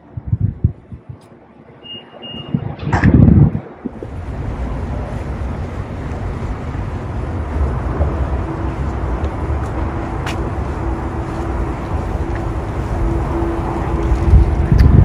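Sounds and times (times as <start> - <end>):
wind buffeting microphone: 0.0 - 1.4, 2.2 - 15.0
road traffic rumble: 0.0 - 15.0.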